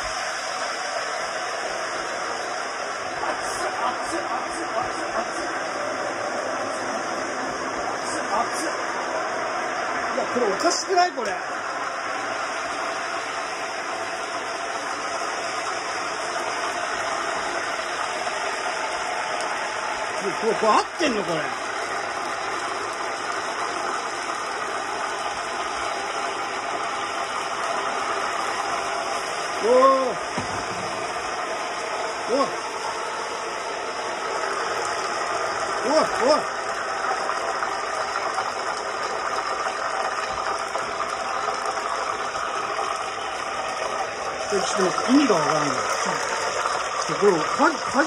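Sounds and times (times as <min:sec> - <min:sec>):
pot bubbling and sizzling: 0:00.0 - 0:48.0.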